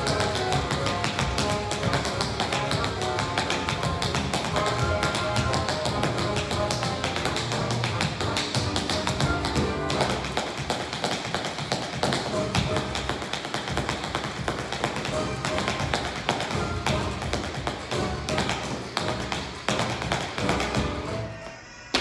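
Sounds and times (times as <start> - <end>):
tap shoes on hard floor: 0.0 - 21.0
recorded music: 0.0 - 22.0.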